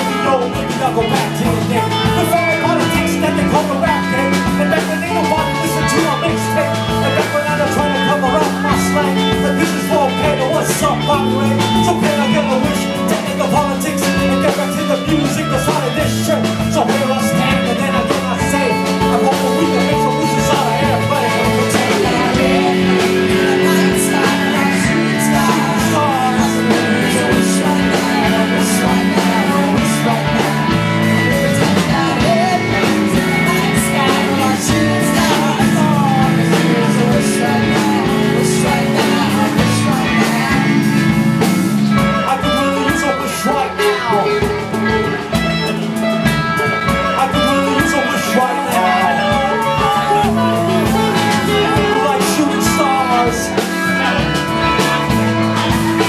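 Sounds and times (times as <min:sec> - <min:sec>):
bass: 0:00.0 - 0:56.0
drums: 0:00.0 - 0:56.0
guitar: 0:00.0 - 0:56.0
person singing: 0:00.0 - 0:56.0.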